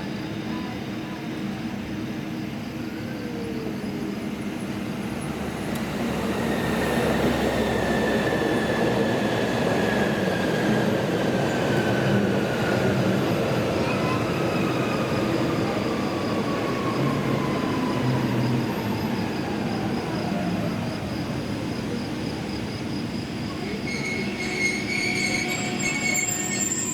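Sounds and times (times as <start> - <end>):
train running past: 0.0 - 26.9.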